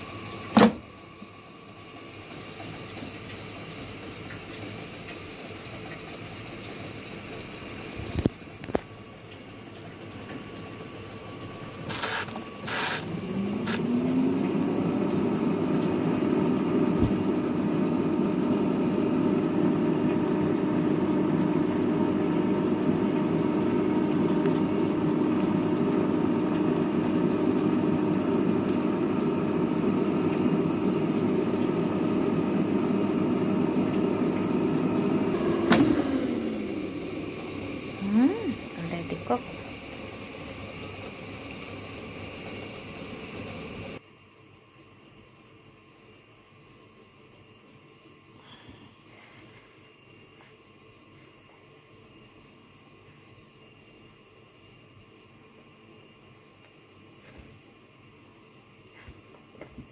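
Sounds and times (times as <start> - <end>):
air fryer fan whirring: 0.0 - 59.9.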